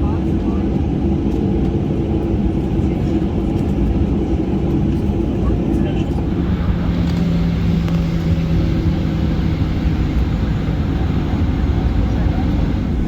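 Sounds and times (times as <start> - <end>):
engines and air conditioning rumble: 0.0 - 13.0.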